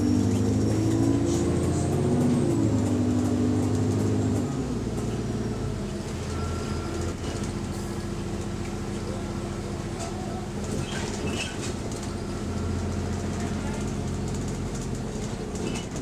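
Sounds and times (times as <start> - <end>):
bus diesel engine from inside: 0.0 - 16.0.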